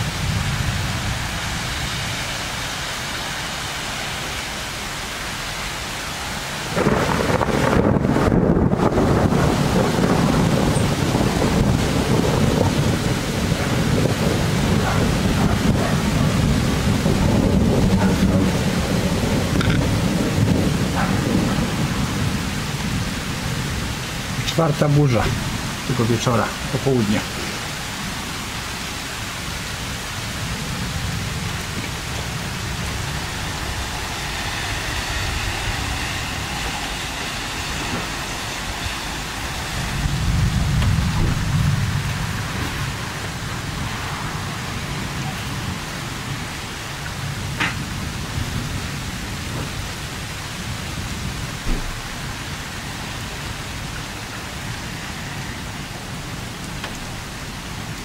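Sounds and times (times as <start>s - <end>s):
rain falling: 0.0s - 58.0s
thunder rumbling: 0.0s - 58.0s.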